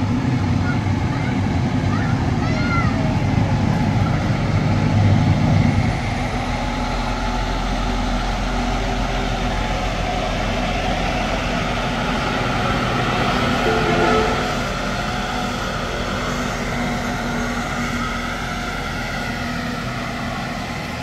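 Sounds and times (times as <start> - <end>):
fire truck diesel engine driving past: 0.0 - 21.0.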